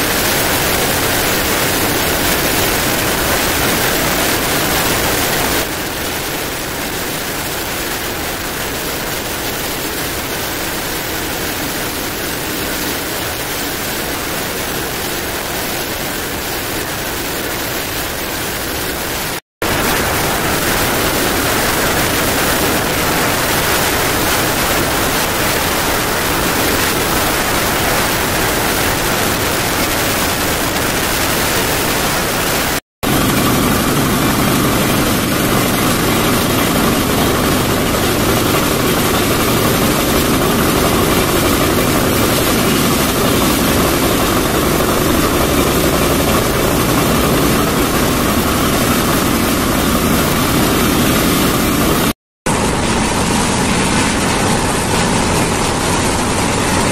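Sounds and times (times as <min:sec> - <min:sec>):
wheel-on-rail running noise: 0:00.0 - 0:56.9
wind rush from moving train: 0:00.0 - 0:56.9.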